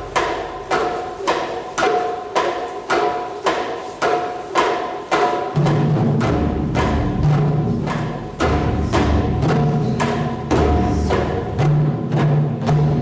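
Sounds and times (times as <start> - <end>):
deep large drum beats: 0.0 - 13.0
rapid sharp drum strikes: 0.0 - 13.0.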